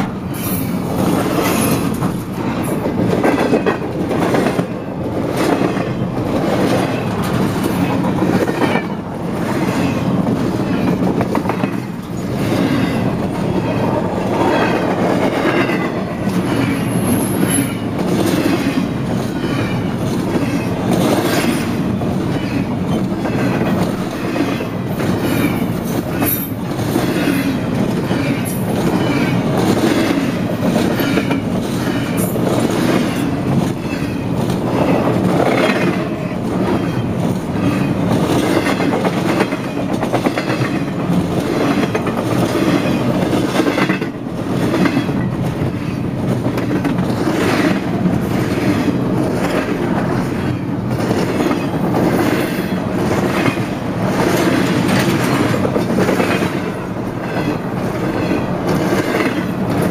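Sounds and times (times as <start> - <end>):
train wheels clacking over rail joints: 0.0 - 59.9.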